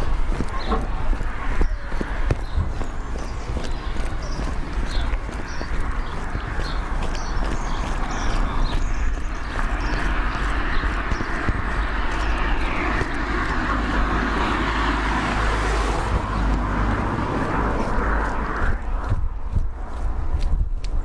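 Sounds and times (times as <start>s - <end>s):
passing vehicle rumble: 0.0s - 21.0s.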